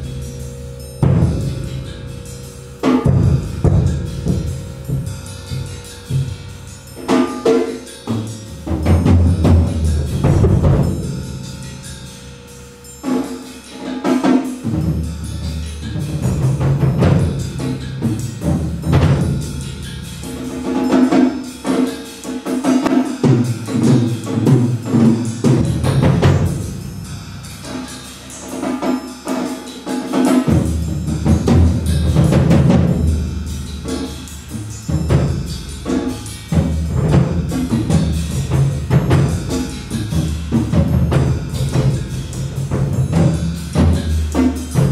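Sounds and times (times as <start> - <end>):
low drum sounds: 0.0 - 7.4, 8.4 - 12.0, 14.6 - 21.9, 23.2 - 27.8, 30.4 - 44.9
struck drum strokes: 0.0 - 44.9
tapped pitched percussion notes: 0.0 - 44.9.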